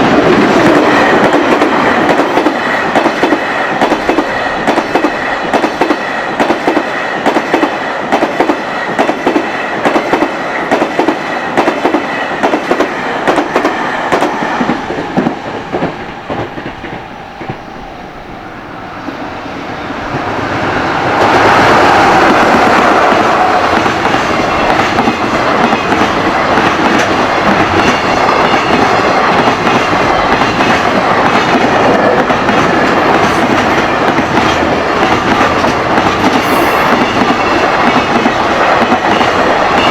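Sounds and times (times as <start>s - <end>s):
freight train clattering over rail joints: 0.0s - 18.3s, 20.1s - 39.9s
train passing with rushing roar: 0.0s - 39.9s.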